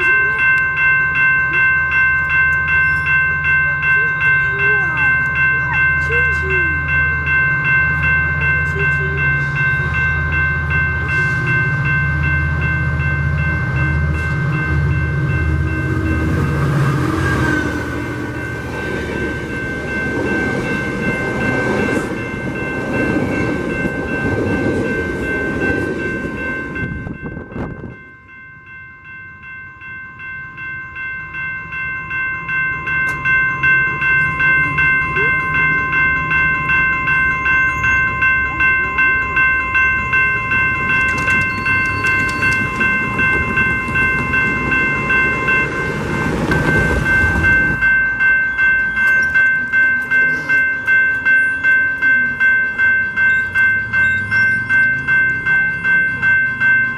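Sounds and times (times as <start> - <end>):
grade crossing warning bell: 0.0 - 56.9
train engine rumble: 0.0 - 56.9.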